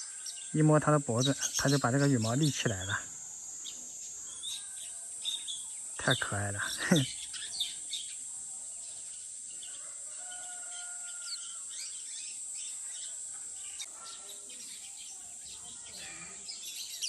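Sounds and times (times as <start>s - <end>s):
high-pitched hiss: 0.0s - 17.0s
songbirds chirping: 0.0s - 17.0s.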